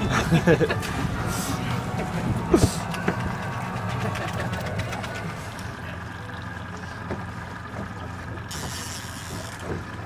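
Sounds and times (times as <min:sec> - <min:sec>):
outboard motor humming: 0:00.0 - 0:10.0
wind: 0:00.0 - 0:10.0.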